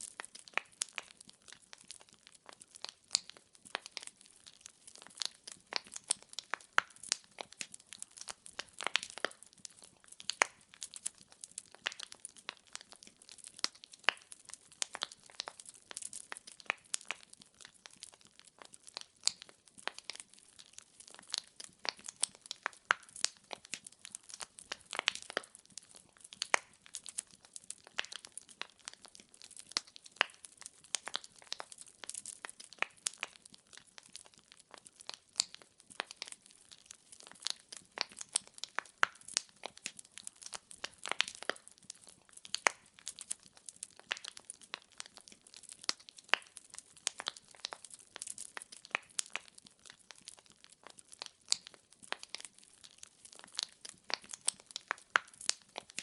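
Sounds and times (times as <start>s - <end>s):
fire pops and snaps: 0.0s - 56.0s.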